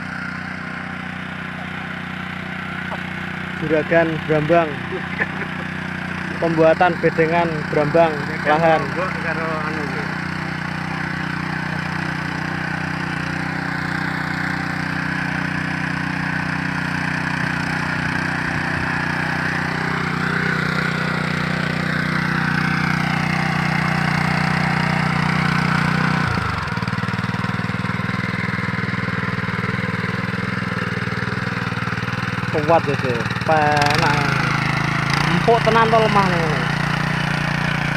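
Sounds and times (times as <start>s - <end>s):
tiller engine churning soil: 0.0s - 37.9s.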